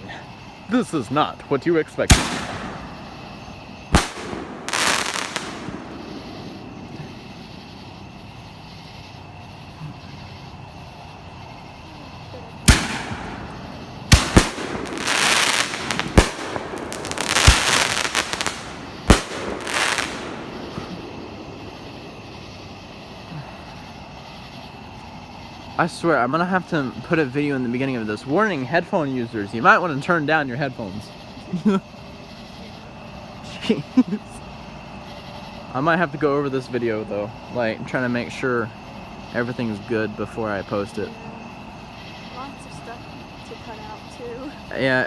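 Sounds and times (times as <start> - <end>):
fireworks bangs and crackling: 0.2 - 45.0.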